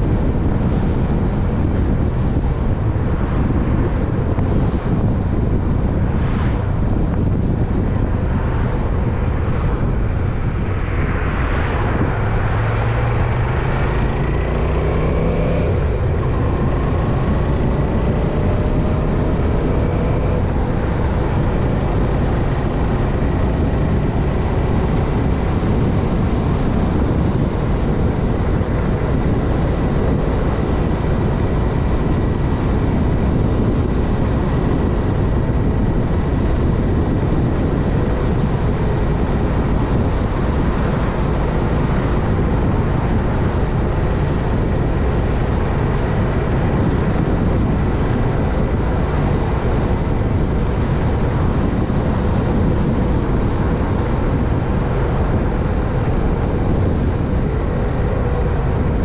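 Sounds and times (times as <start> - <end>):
road noise: 0.0 - 59.0
wind rushing on microphone: 0.0 - 59.0.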